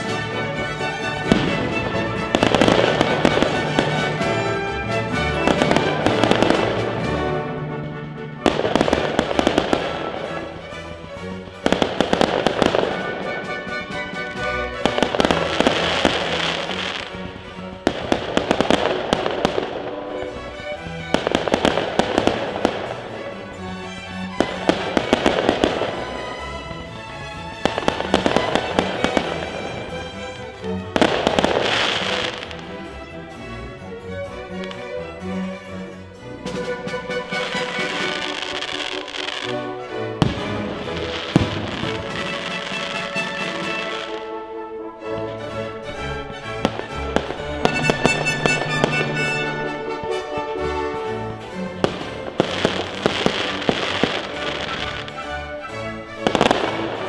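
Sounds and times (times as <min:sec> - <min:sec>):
fireworks bursting and crackling: 0:00.0 - 0:07.3, 0:08.4 - 0:23.6, 0:24.4 - 0:32.7, 0:36.4 - 0:44.4, 0:45.9 - 0:55.3, 0:56.2 - 0:57.0
music: 0:00.0 - 0:57.0.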